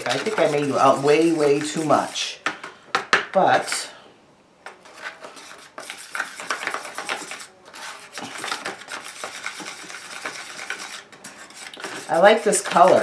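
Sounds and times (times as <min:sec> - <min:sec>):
spoon stirring thick paste: 0:00.0 - 0:03.9, 0:04.7 - 0:13.0.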